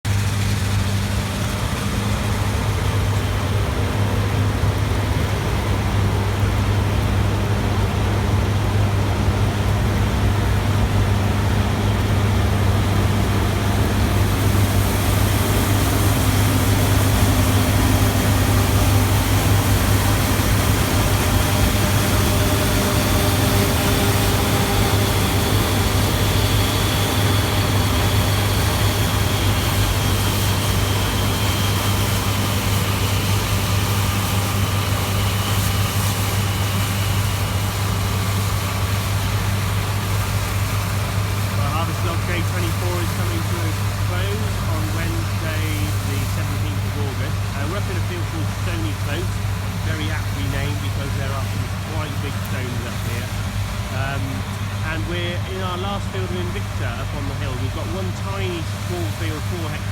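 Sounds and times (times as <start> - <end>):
heavy engine humming: 0.0 - 59.9
faint high whine: 9.4 - 59.9
machinery hiss: 9.8 - 59.9.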